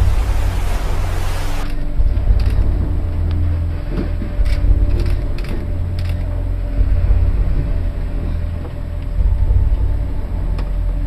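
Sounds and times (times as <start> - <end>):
ship creaking: 0.0 - 10.8
low rumble of wind and sea: 0.0 - 11.0.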